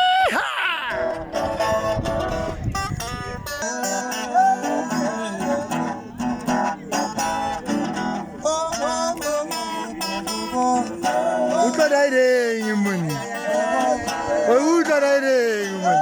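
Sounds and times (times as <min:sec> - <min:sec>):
acoustic guitar music: 0:00.9 - 0:16.0.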